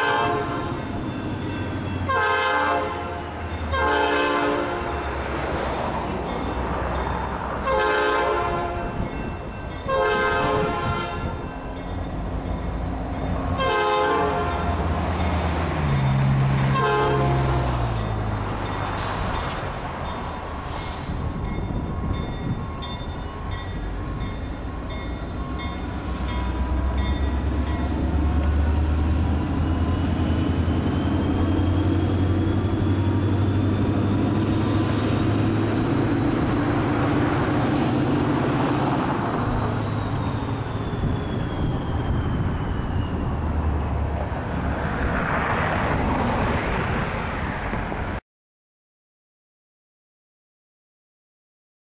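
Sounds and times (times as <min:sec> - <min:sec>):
crossing bell ringing: 0:00.0 - 0:43.9
diesel locomotive engine drone: 0:00.0 - 0:48.2.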